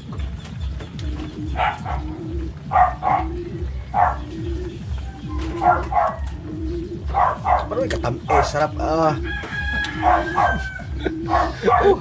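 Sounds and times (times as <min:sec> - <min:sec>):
low rhythmic thumping: 0:00.0 - 0:12.0.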